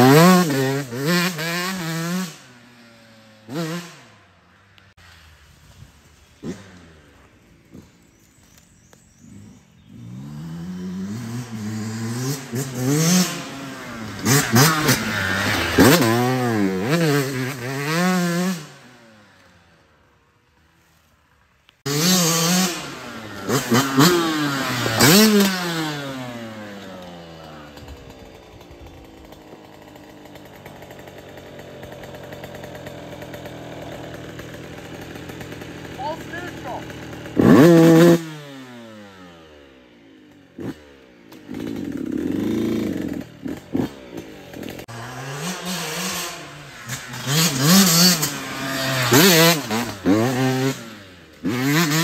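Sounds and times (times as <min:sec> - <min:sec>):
dirt bike revving: 0:00.0 - 0:04.9, 0:06.2 - 0:19.8, 0:21.8 - 0:52.0.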